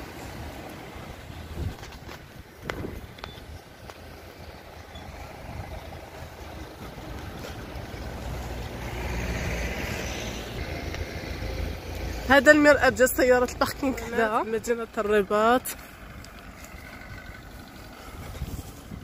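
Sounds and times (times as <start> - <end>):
vehicle engine and tyre rumble: 0.0 - 19.0.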